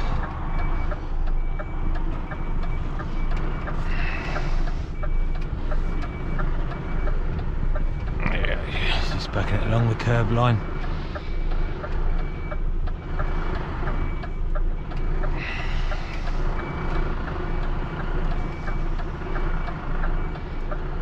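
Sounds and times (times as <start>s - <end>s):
diesel truck engine running: 0.0s - 21.0s
reversing alarm beeps: 0.0s - 21.0s.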